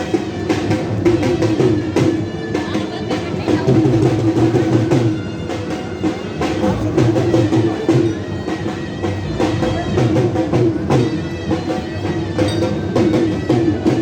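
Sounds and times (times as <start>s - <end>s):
regular drumbeats: 0.0s - 14.0s.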